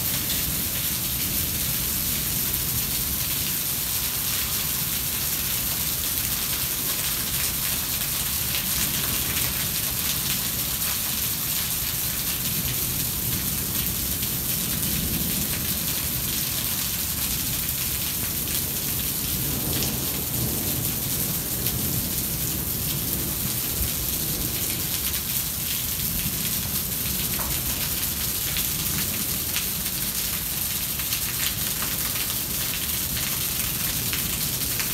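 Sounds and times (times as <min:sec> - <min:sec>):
rain falling steadily: 0:00.0 - 0:34.9.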